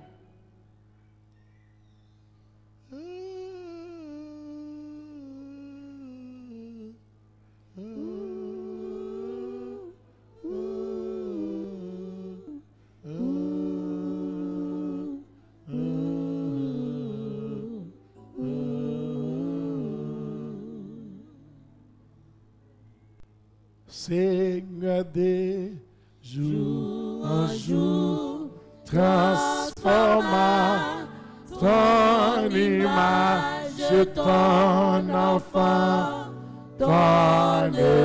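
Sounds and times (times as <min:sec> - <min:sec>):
man humming a hymn melody: 0:02.8 - 0:21.8, 0:23.9 - 0:38.0.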